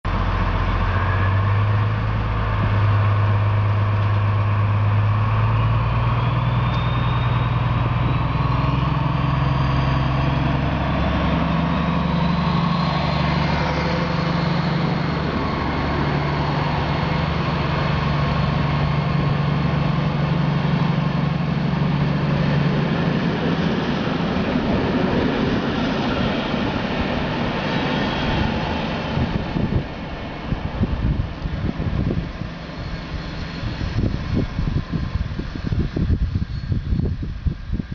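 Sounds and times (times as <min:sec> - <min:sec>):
diesel locomotive engine working: 0:00.0 - 0:37.9.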